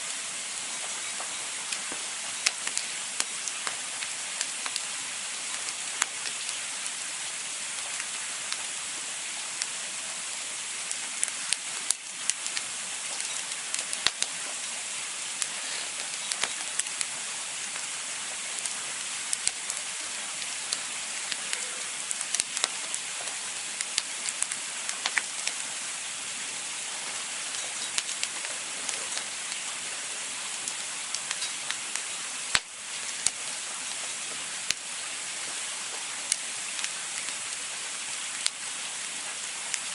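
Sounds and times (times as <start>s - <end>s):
campfire hissing: 0.0s - 39.9s
wood crackling and popping: 0.0s - 39.9s.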